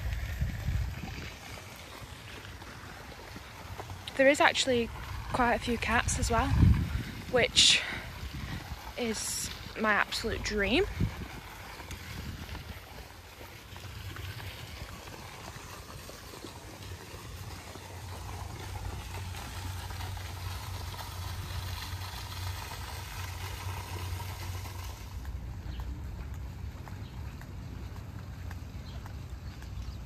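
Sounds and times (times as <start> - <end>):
wind rumble on microphone: 0.0 - 2.6, 3.4 - 30.0
pond fountain splashing: 0.0 - 30.0.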